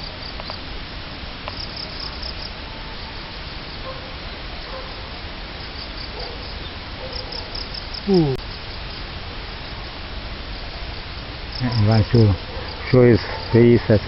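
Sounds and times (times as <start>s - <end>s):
crickets chirping: 0.0s - 14.0s
steady background hiss: 0.0s - 14.0s.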